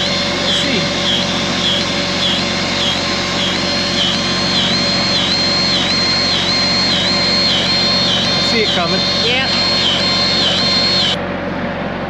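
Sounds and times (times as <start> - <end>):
grease gun motor whining: 0.0 - 11.2.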